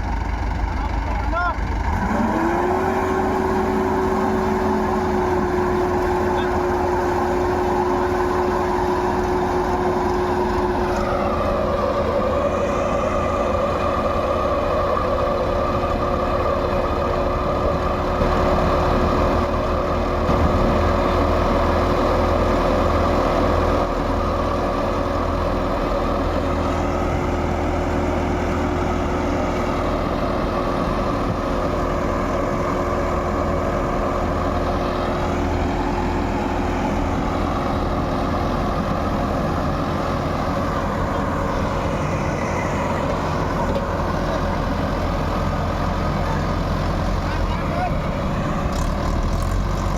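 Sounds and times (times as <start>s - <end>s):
heavy diesel engine under load: 0.0s - 49.9s.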